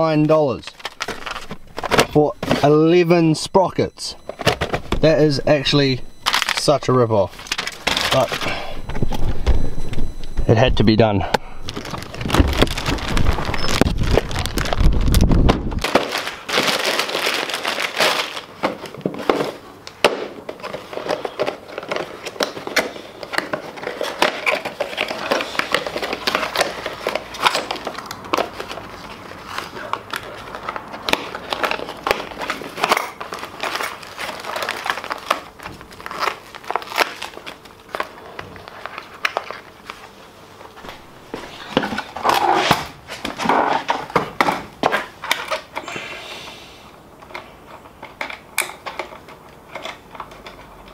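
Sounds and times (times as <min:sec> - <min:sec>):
packaging crinkling and rustling: 0:00.0 - 0:03.2, 0:04.1 - 0:10.2, 0:11.4 - 0:45.9, 0:47.2 - 0:50.9.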